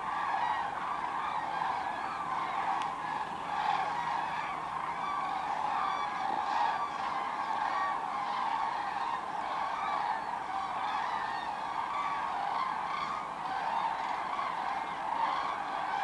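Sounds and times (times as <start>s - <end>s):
cranes calling in flight: 0.0s - 16.0s.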